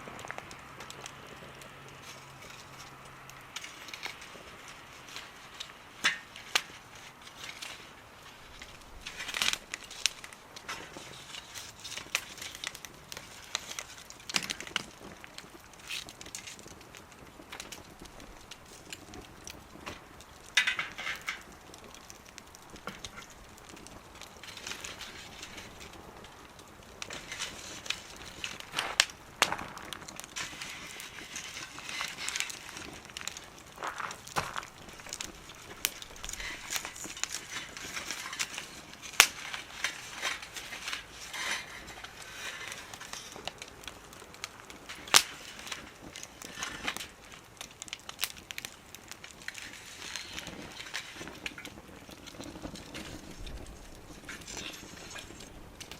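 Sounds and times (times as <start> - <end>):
wood fire crackling: 0.0 - 55.9
sharp pops and snaps: 8.5 - 55.9.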